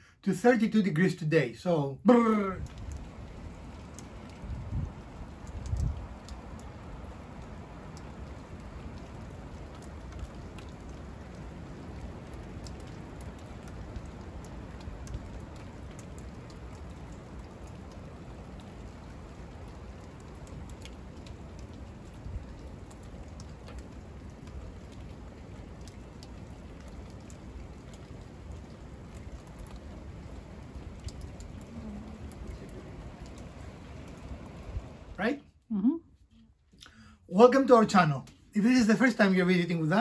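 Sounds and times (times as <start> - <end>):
rain pattering: 0.0 - 40.0.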